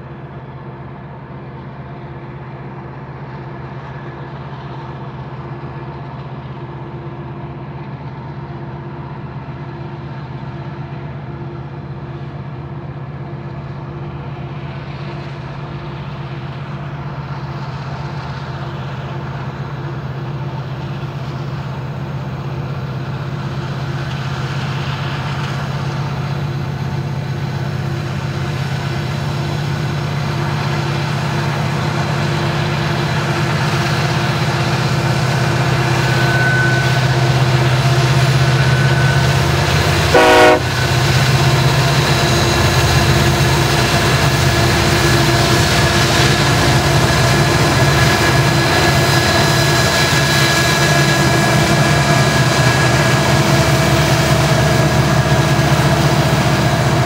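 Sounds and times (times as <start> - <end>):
diesel locomotive engine drone: 0.0 - 57.0
wheel and rail noise: 0.0 - 57.0.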